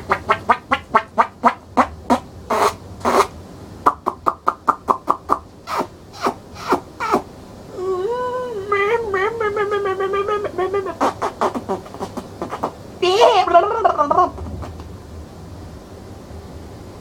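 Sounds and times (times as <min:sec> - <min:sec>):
person making clucking yelps: 0:00.0 - 0:14.9.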